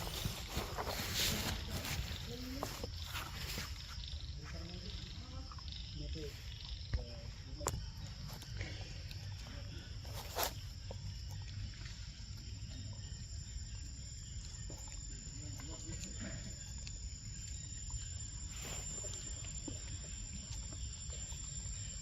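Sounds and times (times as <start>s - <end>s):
high whine: 0.0s - 5.0s, 6.9s - 22.0s.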